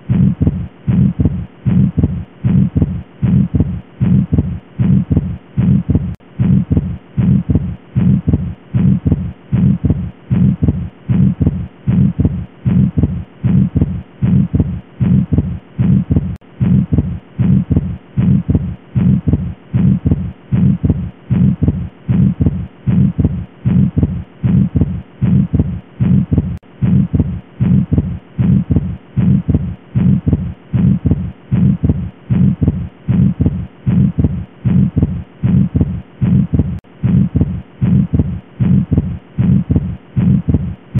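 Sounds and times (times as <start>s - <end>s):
heartbeat with murmur: 0.0s - 40.9s.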